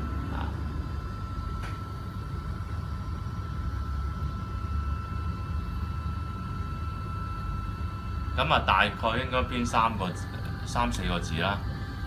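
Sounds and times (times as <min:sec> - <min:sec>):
printer fans and motors humming: 0:00.0 - 0:12.0
thin steady whine: 0:00.0 - 0:12.0.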